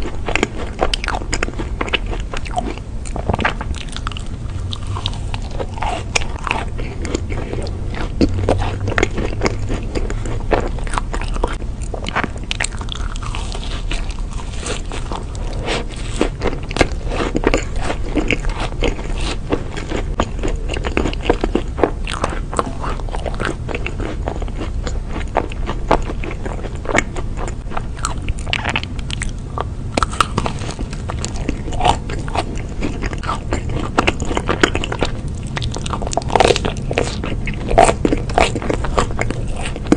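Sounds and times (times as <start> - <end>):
crunching and chewing sweets: 0.0 - 39.9
low steady hum: 0.0 - 39.9.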